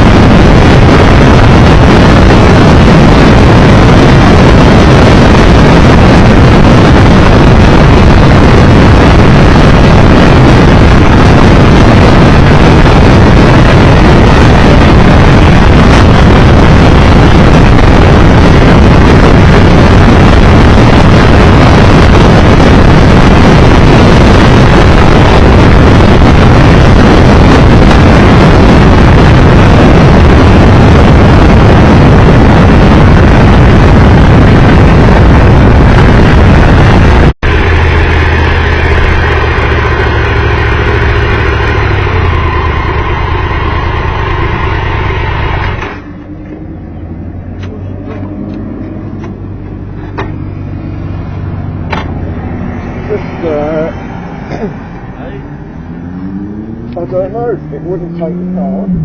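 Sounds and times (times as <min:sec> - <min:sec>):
motorcycle engine humming: 0:00.0 - 0:59.0
motorcycle wind and road noise: 0:00.0 - 0:59.0.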